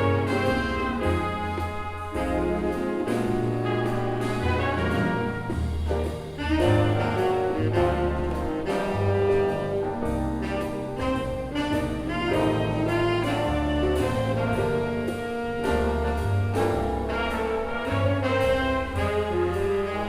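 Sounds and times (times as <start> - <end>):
jazz big band playing swing: 0.0 - 20.0.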